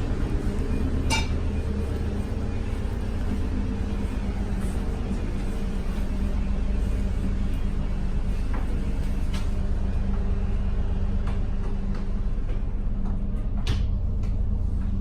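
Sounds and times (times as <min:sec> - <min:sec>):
vehicle engine drone: 0:00.0 - 0:15.0.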